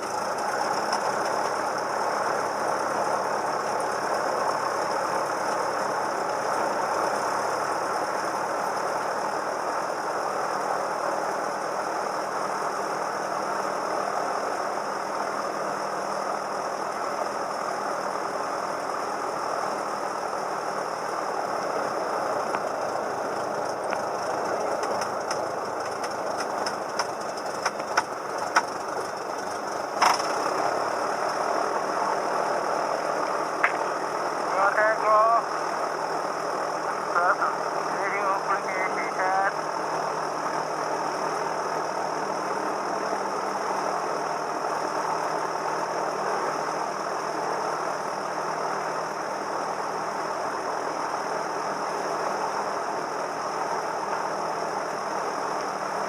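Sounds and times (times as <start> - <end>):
plane engine and propeller droning: 0.0 - 56.0.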